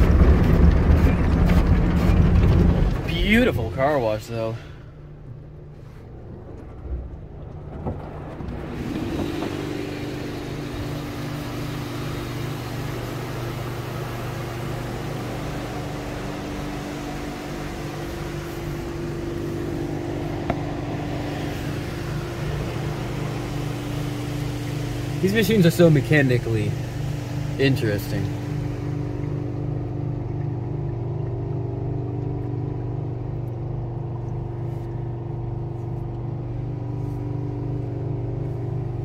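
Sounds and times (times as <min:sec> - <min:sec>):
car wash brushes and spray: 0:00.0 - 0:04.8, 0:05.6 - 0:30.8, 0:34.3 - 0:39.0
machinery hum with two low tones: 0:00.0 - 0:39.0.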